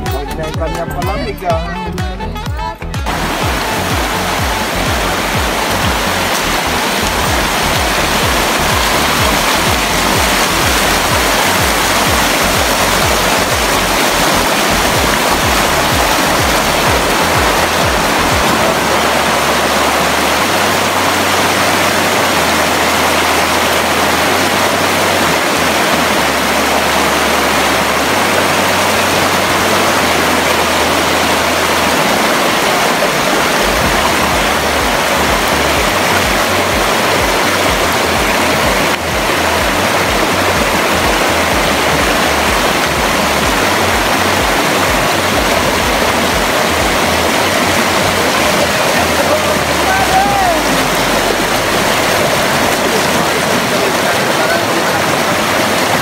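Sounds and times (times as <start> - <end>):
river rushing over stones: 2.8 - 56.0.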